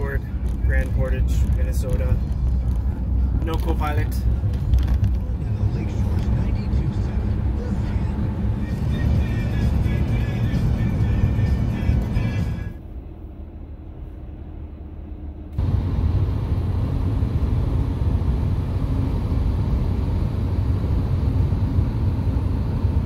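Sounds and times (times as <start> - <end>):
road and engine noise inside van: 0.0 - 23.0.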